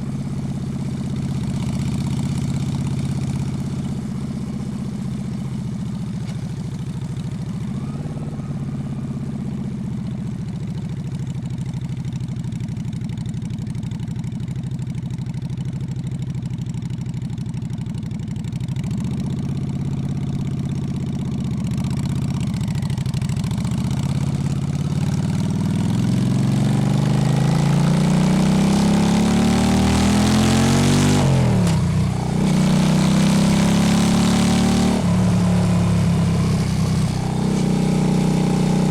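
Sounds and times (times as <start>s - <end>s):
motorcycle engine idling and accelerating: 0.0s - 38.9s.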